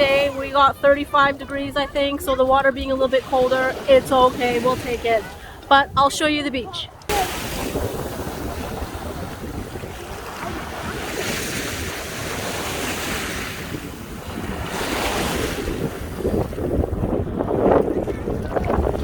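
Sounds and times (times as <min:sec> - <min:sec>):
sea waves washing onto beach: 0:00.0 - 0:19.0
wind buffeting microphone: 0:00.0 - 0:19.0.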